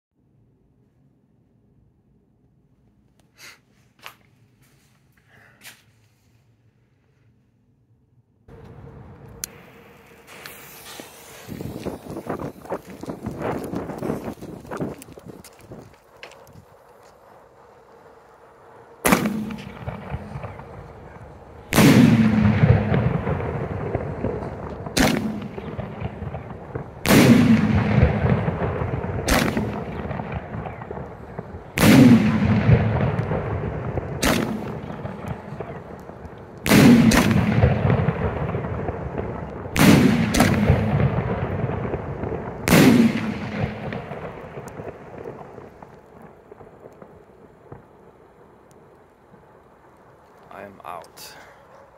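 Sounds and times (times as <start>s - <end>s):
loud firework reports echoing: 8.5s - 51.8s.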